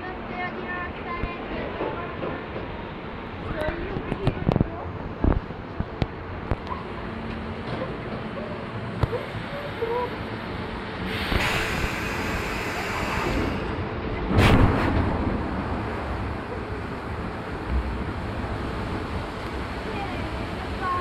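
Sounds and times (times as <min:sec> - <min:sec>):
ride car rumbling on track: 0:00.0 - 0:21.0.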